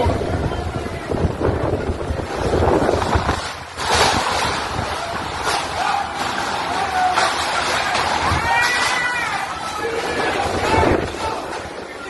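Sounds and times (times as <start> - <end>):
strong wind buffeting microphone: 0.0 - 7.1, 8.0 - 12.0
rushing water: 0.0 - 12.0.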